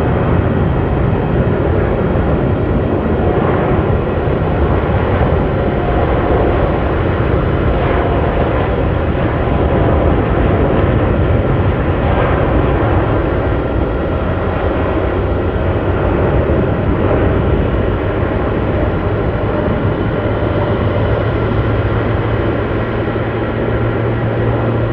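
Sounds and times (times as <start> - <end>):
airliner engines rumbling: 0.0 - 24.9.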